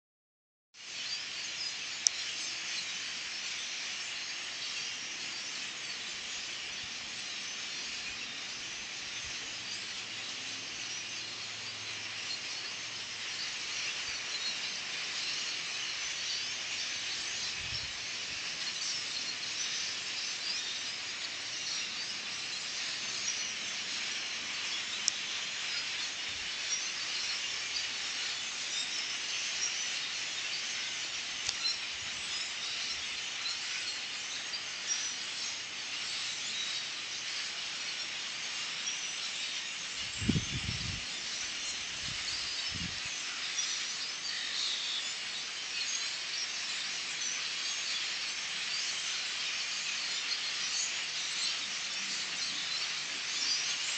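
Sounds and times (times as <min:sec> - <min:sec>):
flock of birds calling: 0:00.8 - 0:53.9.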